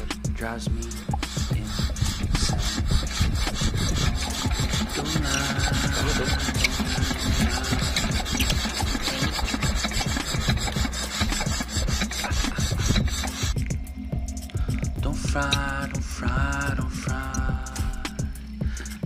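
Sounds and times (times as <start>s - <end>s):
music with singing: 0.0s - 19.0s
rasping rubbing strokes: 0.0s - 19.0s.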